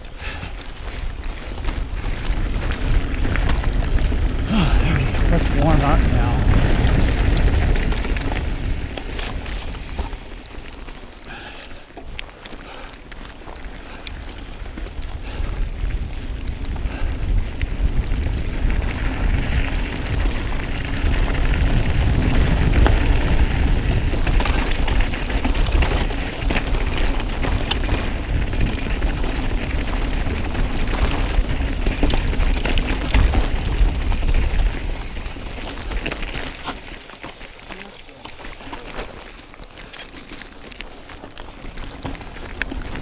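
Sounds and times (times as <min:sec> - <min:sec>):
wind buffeting microphone: 0:00.0 - 0:37.7
bike clicking and rattling: 0:00.0 - 0:43.0.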